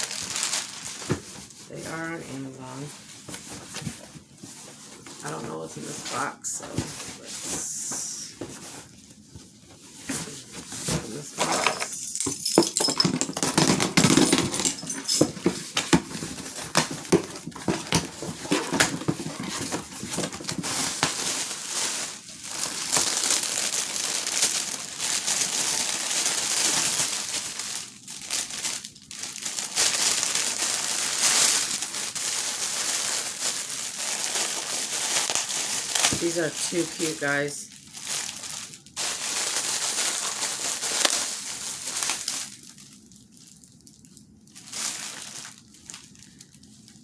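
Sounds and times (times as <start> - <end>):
packaging rustling and crinkling: 0.0 - 47.0.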